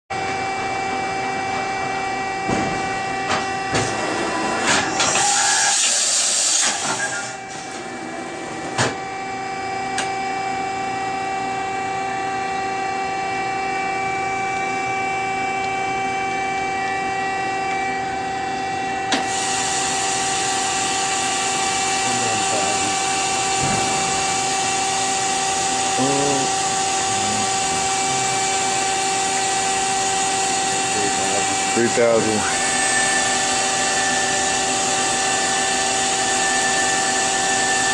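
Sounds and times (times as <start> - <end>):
machine whine: 0.2 - 37.9.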